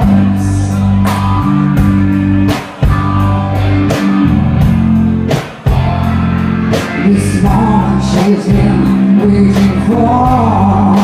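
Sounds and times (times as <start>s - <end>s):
guitars and bass: 0.0s - 11.0s.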